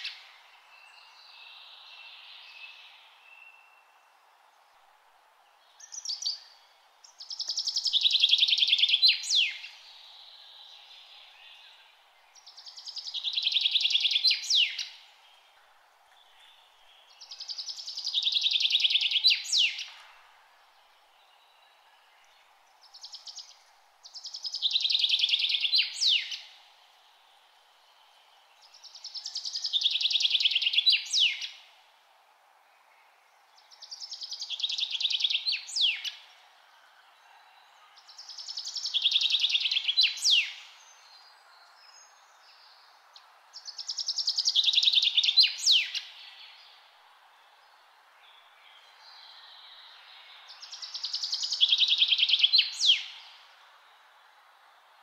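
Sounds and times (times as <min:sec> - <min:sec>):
faint steady hiss: 0:00.0 - 0:55.0
songbird trilling song: 0:05.6 - 0:20.1, 0:21.0 - 0:26.6, 0:27.9 - 0:31.7, 0:33.0 - 0:53.6.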